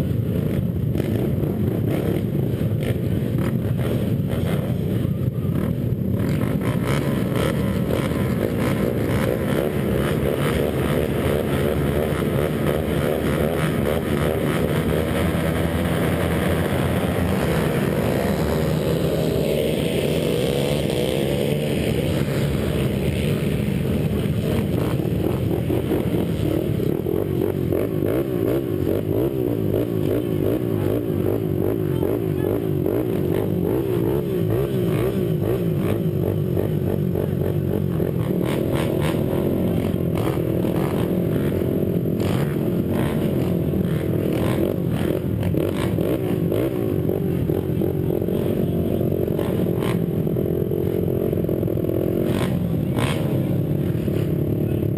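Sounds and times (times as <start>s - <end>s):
quad engine revving: 0.0s - 54.8s.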